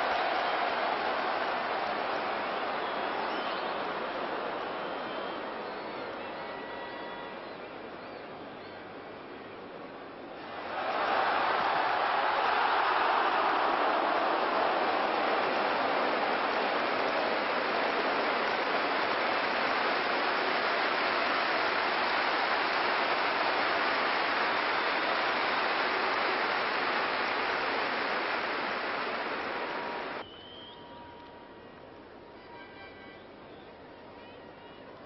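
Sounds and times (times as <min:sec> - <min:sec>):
stadium crowd noise: 0:00.0 - 0:35.0.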